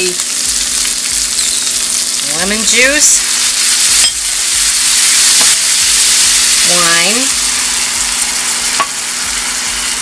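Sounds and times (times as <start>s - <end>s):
shrimp sizzling in a pan: 0.0s - 10.0s.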